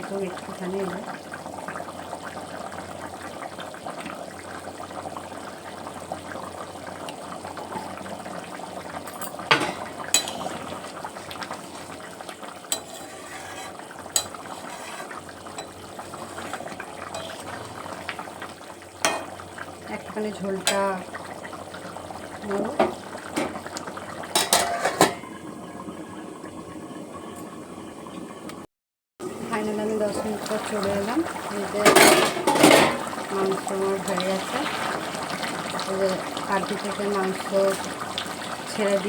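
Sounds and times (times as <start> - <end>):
curry simmering and bubbling: 0.0 - 28.4, 29.2 - 39.0.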